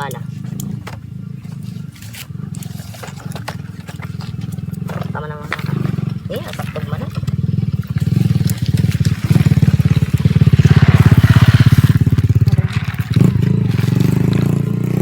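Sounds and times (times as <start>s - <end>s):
engine puttering: 0.0s - 15.0s.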